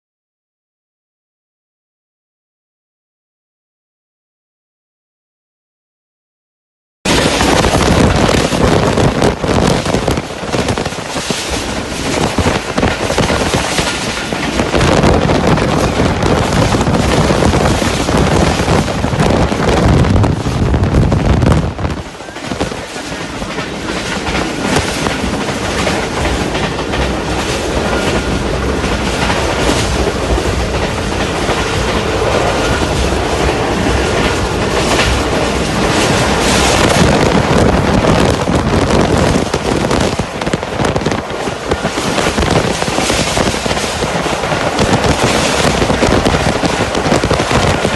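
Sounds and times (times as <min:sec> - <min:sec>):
train wheels clattering over rails: 0:07.1 - 0:47.9.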